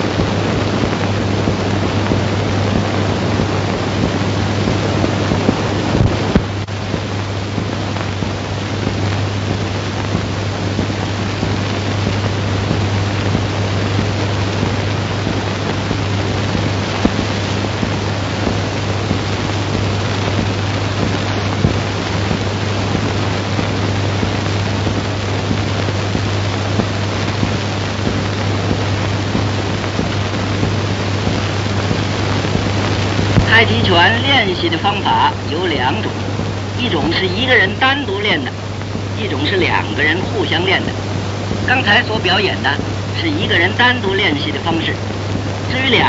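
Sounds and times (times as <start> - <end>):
film soundtrack hiss and hum: 0.0 - 46.0.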